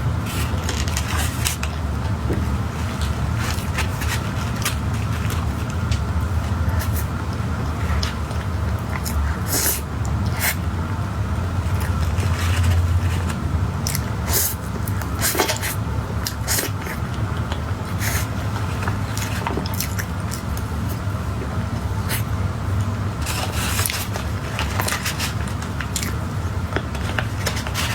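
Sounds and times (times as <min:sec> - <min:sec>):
steady low hum: 0:00.0 - 0:27.9
chewing squishes and smacks: 0:00.6 - 0:10.6, 0:11.6 - 0:27.9.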